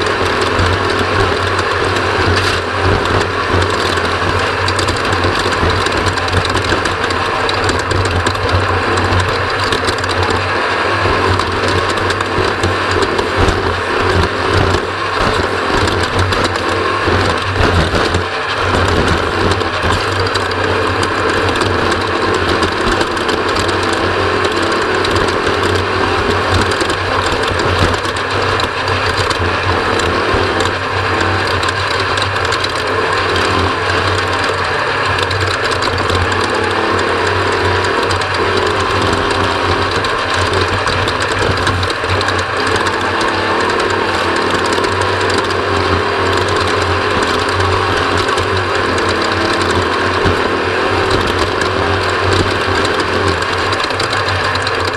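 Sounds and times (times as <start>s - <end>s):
chassis rattling: 0.0s - 54.9s
engine drone: 0.0s - 54.9s.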